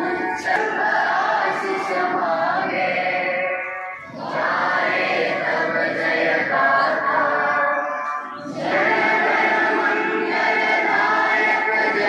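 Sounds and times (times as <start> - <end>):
children singing in unison: 0.0 - 12.0.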